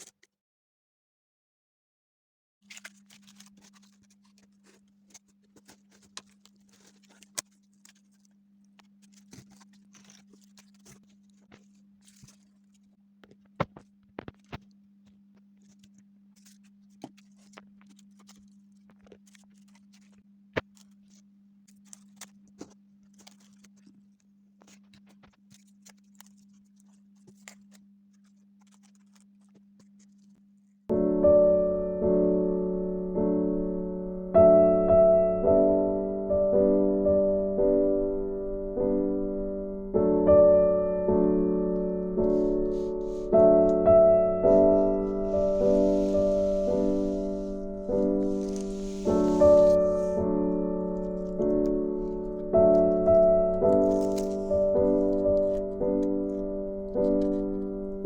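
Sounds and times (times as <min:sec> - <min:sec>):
paper clicks and rustles: 0:00.0 - 0:00.3, 0:02.6 - 0:30.9, 0:38.0 - 0:58.0.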